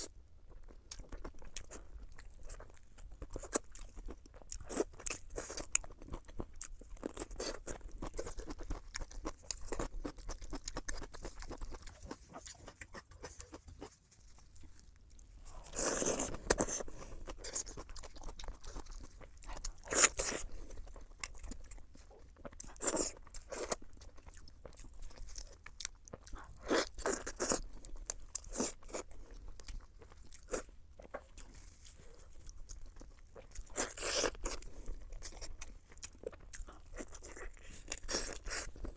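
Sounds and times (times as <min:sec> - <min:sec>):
mouth chewing with wet clicks: 0:00.5 - 0:38.9.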